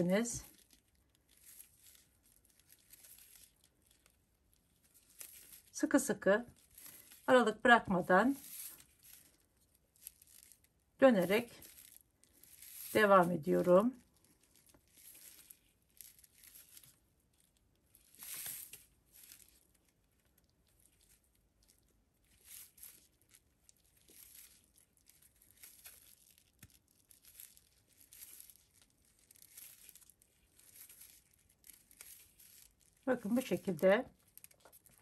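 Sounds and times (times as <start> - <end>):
paper yarn rustling: 0.0 - 35.0.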